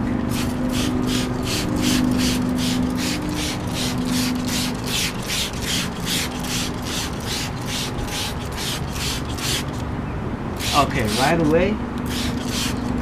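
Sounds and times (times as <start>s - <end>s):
spray bottle hissing: 0.3s - 9.8s, 10.6s - 11.4s, 12.0s - 13.0s.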